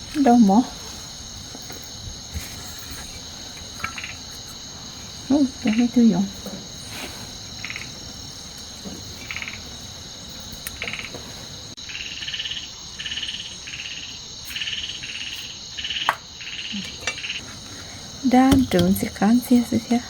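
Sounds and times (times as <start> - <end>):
high insect chorus: 0.0 - 20.0.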